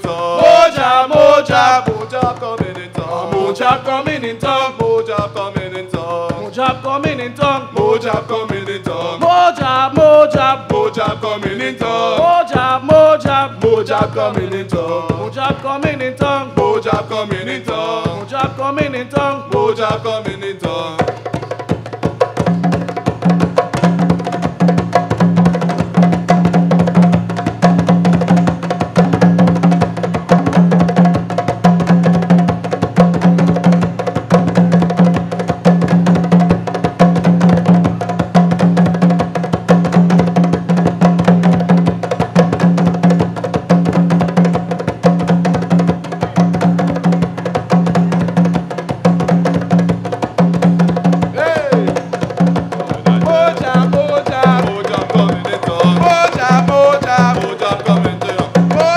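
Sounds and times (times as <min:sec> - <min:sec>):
hand drums playing fast rhythm: 0:00.0 - 0:58.9.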